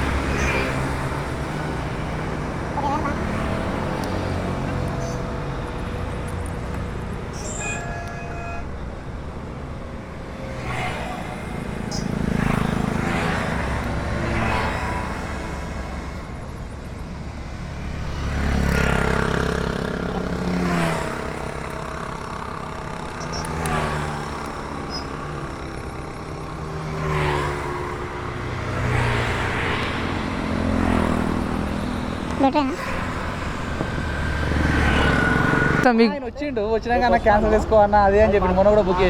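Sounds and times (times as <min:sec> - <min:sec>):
motorcycle engine revving: 0:00.0 - 0:35.9
road and wind noise: 0:00.0 - 0:39.0.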